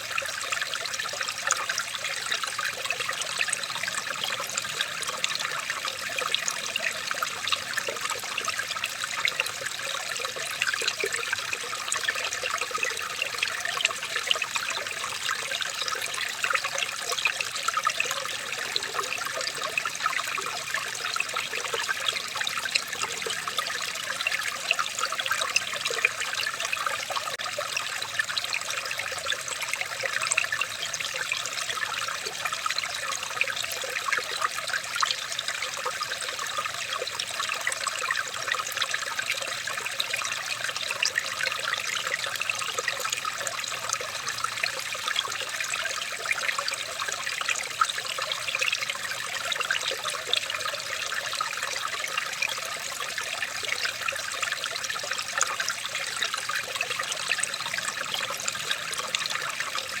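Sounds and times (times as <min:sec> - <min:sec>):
stream trickling over stones: 0:00.0 - 1:00.0.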